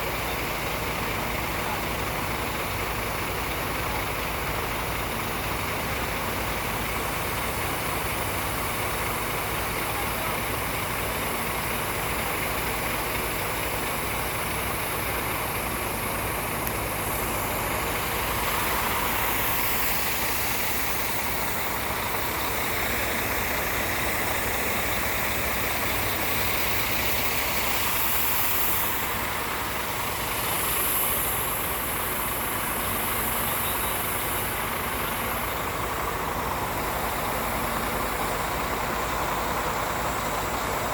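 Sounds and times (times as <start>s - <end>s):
heavy engine running: 0.0s - 40.9s
hiss: 6.3s - 40.9s.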